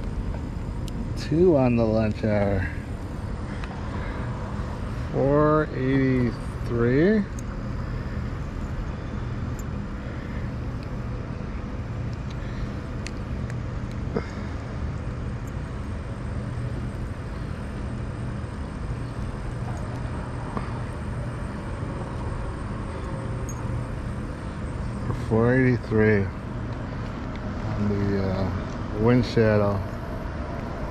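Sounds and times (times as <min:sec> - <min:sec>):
road traffic rumble: 0:00.0 - 0:30.9.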